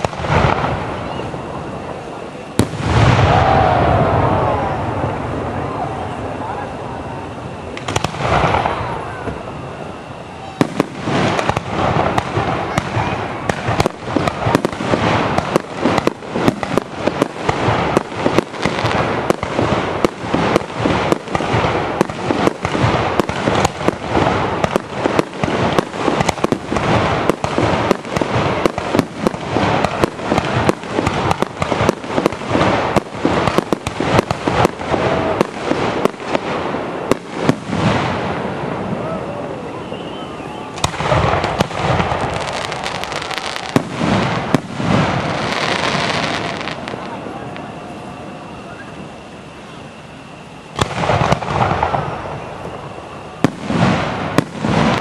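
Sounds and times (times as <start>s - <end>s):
fireworks shells bursting overhead: 0.0s - 55.0s.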